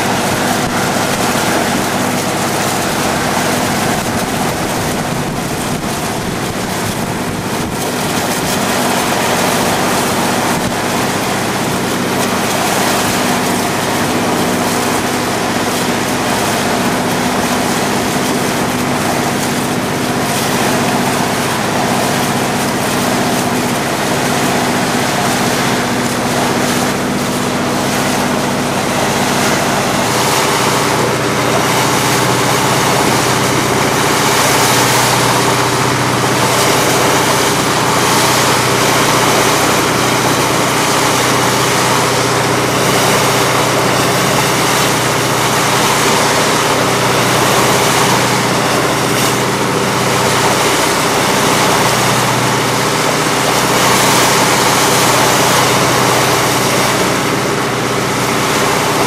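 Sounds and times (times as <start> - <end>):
motor boat engine humming: 0.0 - 59.0
water noise: 0.0 - 59.0.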